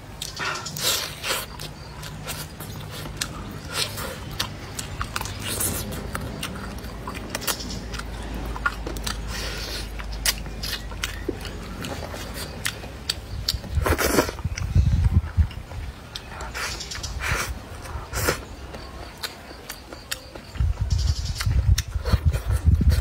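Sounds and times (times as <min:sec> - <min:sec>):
person chewing with mouth clicks: 0:00.2 - 0:23.0.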